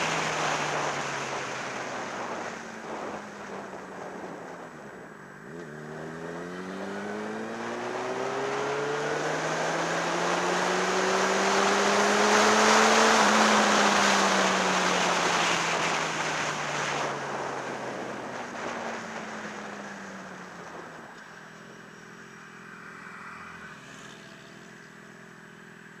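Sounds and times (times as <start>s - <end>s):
wind noise on helmet: 0.0s - 21.8s
motorcycle engine accelerating: 0.0s - 26.0s.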